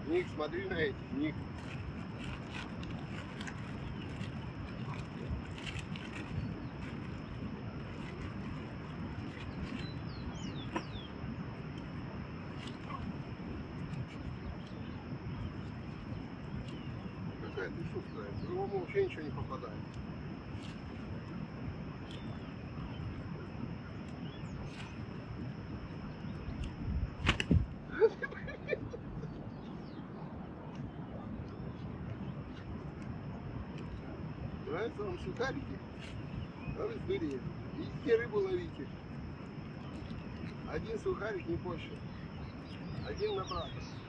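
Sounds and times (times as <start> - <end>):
steady outdoor rushing noise: 0.0 - 44.0.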